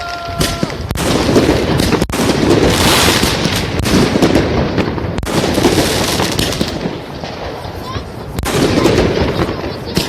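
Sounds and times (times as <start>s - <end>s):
firework bangs: 0.0s - 10.0s
fireworks crackling: 0.0s - 10.0s.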